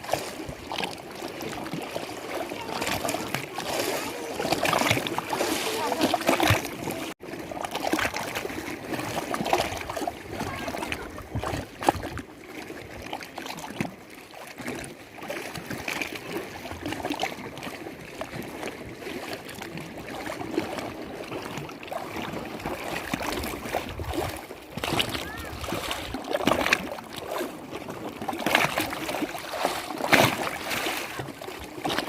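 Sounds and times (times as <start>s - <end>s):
lake water lapping: 0.0s - 32.0s.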